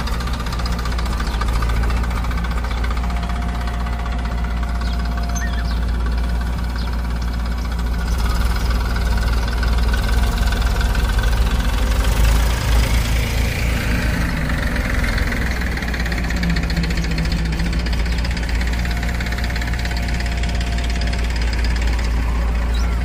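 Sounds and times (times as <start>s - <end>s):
backhoe diesel engine running: 0.0s - 23.0s.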